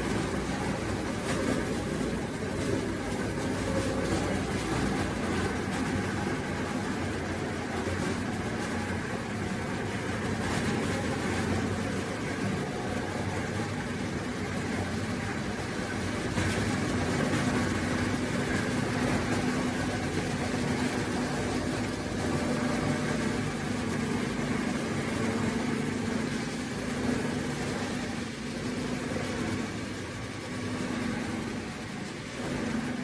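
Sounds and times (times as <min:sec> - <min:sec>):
cutting machine mechanical drone: 0:00.0 - 0:33.0.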